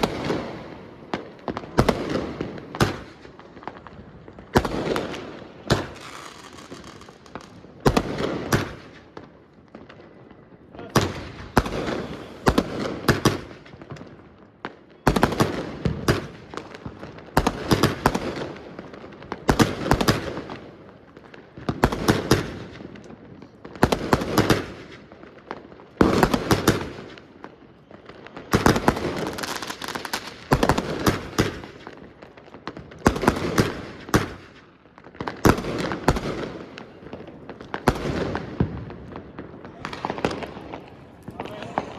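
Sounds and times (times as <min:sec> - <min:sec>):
fireworks crackling bursts: 0:00.0 - 0:41.9.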